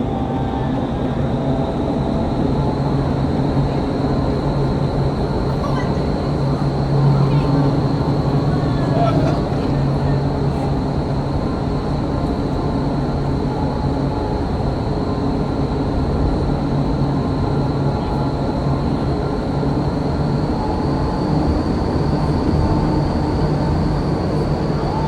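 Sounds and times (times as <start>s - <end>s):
high whine: 0.0s - 25.0s
low hum: 0.0s - 25.0s.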